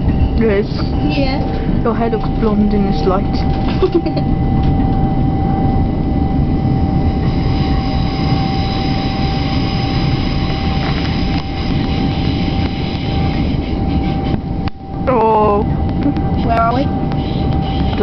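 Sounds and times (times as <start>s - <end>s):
thin whine: 0.0s - 18.0s
train rumble inside carriage: 0.0s - 18.0s.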